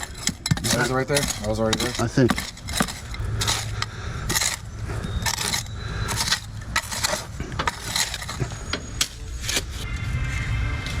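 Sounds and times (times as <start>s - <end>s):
metal tool scraping gritty ground: 0.0s - 11.0s.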